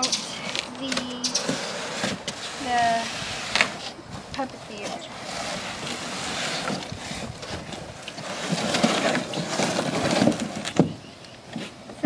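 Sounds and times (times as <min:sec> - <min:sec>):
cardboard scraping and rustling: 0:00.0 - 0:04.0, 0:04.7 - 0:11.8.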